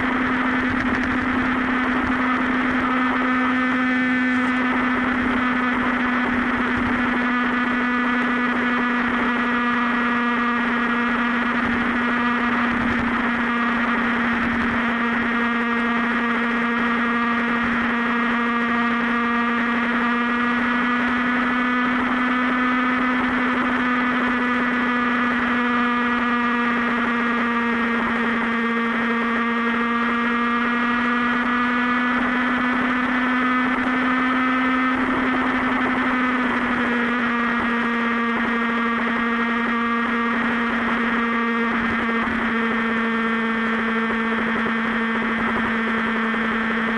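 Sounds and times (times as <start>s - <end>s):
motorcycle engine cruising: 0.0s - 46.9s.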